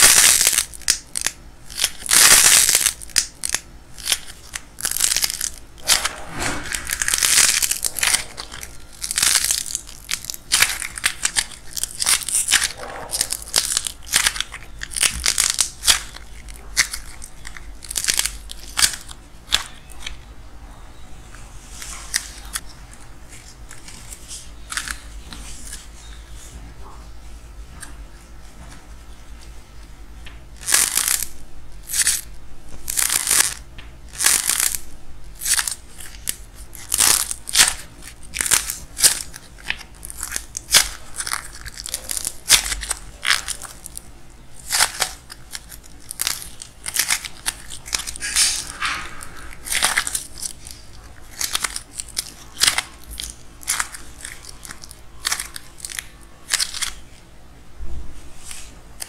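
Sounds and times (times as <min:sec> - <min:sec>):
dried clay crust cracking: 0:00.0 - 0:20.3, 0:21.3 - 0:27.0, 0:29.4 - 0:57.2.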